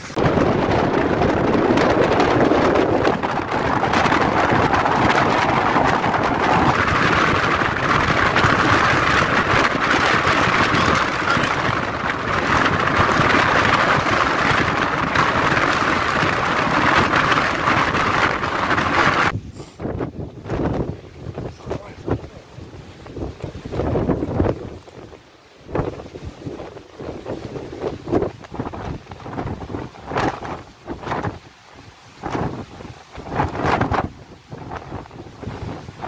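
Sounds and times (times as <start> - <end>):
strong wind buffeting microphone: 0.0 - 36.0.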